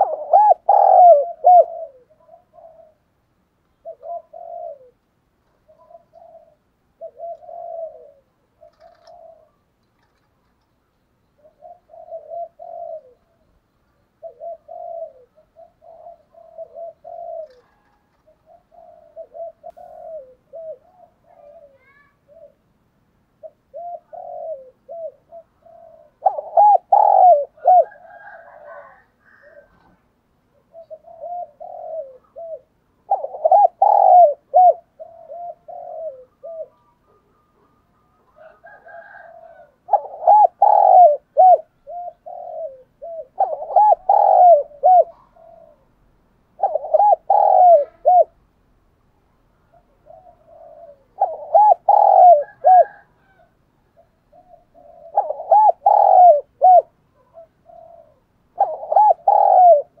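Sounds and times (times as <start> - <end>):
dove cooing: 0.0 - 10.3, 11.4 - 13.6, 14.2 - 22.7, 23.4 - 48.4, 49.6 - 60.0.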